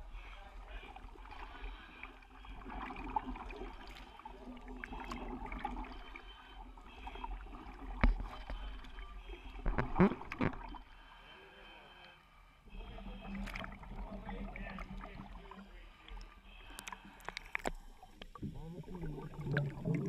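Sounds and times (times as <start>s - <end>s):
water splashing and churning: 0.0s - 10.9s, 12.7s - 20.0s.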